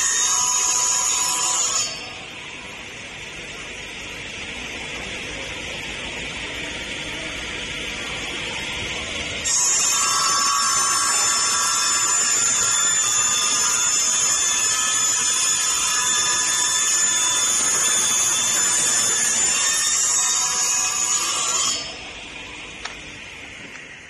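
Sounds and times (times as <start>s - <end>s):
saw machine whining: 0.0s - 24.0s.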